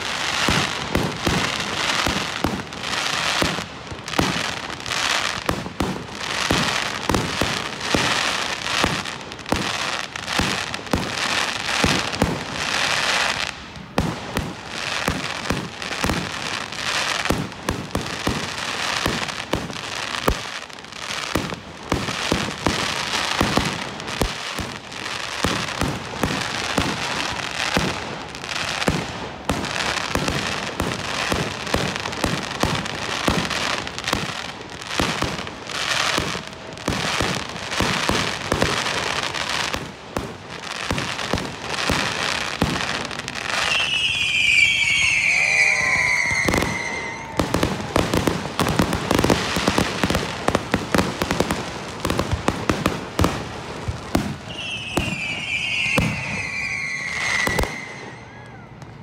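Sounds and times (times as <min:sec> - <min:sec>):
fireworks crackling and popping: 0:00.0 - 0:59.0
whistling firework: 0:00.0 - 0:59.0.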